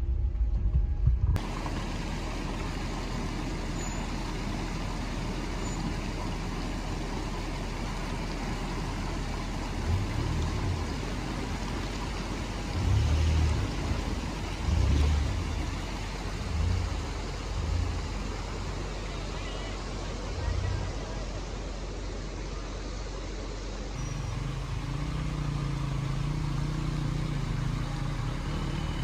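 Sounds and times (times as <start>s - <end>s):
deep rumbles: 0.0s - 27.0s
engine running: 0.0s - 29.0s
rushing water: 1.4s - 29.0s.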